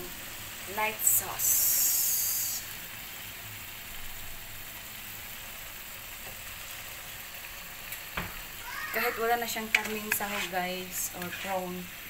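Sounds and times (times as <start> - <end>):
greens sizzling in a hot wok: 0.0 - 12.0
sauce poured into pan sizzling: 0.1 - 12.0.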